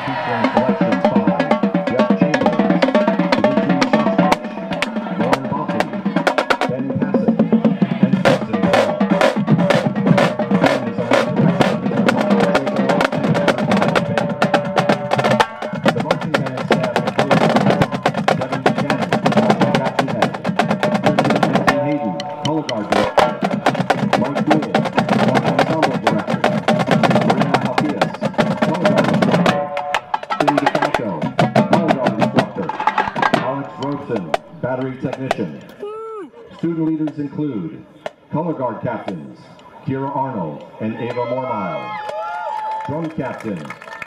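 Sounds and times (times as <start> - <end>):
bass drums: 0.0 - 35.6
snare drums: 0.1 - 35.6.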